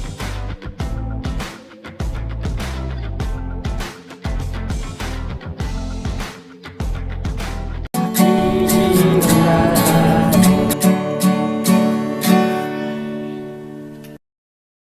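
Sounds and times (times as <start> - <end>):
strummed acoustic guitar: 0.0 - 14.2.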